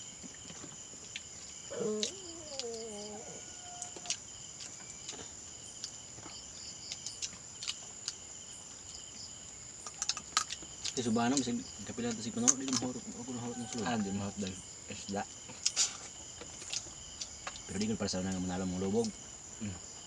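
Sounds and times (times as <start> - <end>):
night insects chirping: 0.0 - 20.0.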